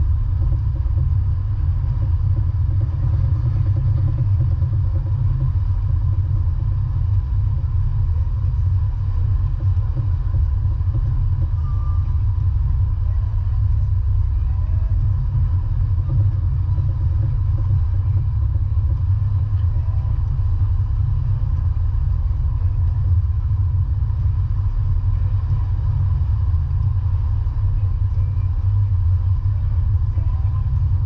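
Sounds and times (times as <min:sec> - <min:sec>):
vehicle rumbling in motion: 0:00.0 - 0:31.0.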